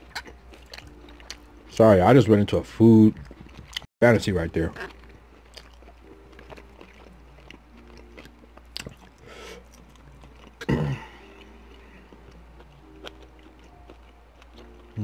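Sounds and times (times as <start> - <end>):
person chewing food: 0.0 - 1.7, 3.1 - 3.9, 4.6 - 15.0.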